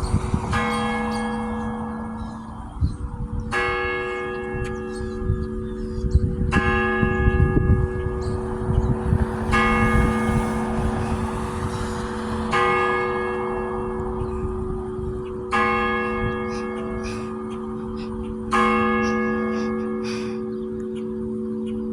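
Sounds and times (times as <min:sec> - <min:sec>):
church bell striking: 0:00.0 - 0:21.9.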